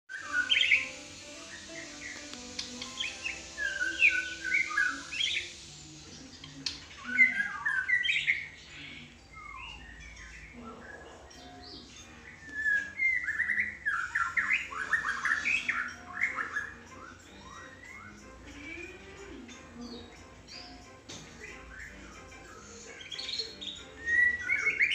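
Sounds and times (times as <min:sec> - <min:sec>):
bird whistled song: 0:00.1 - 0:24.9.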